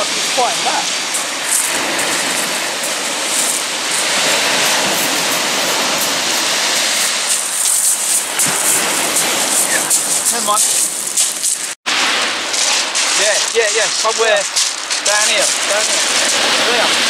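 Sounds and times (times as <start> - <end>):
surf washing on shingle: 0.0 - 17.0.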